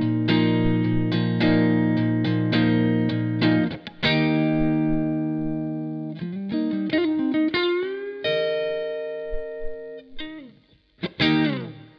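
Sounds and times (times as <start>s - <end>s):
electric guitar playing: 0.0s - 11.9s.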